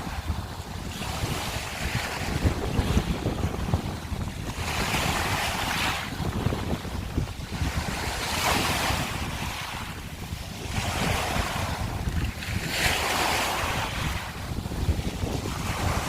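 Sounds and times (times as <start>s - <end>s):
waves breaking on shore: 0.0s - 16.0s
wind rumbling on microphone: 0.0s - 16.0s.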